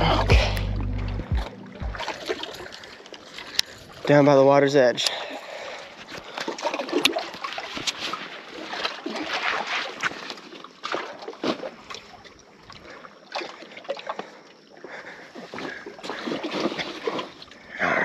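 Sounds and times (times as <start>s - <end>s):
water splashing and sloshing: 0.0s - 17.8s.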